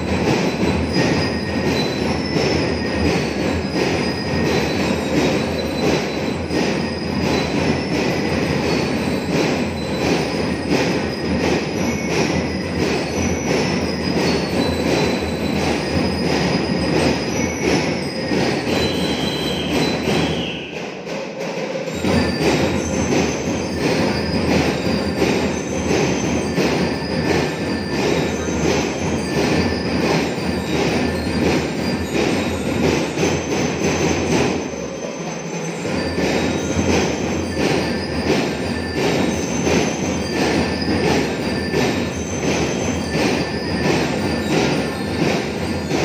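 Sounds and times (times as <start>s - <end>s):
bell-like high notes: 0.0s - 46.0s
din of a large crowd: 0.0s - 46.0s
drums beating: 0.0s - 46.0s.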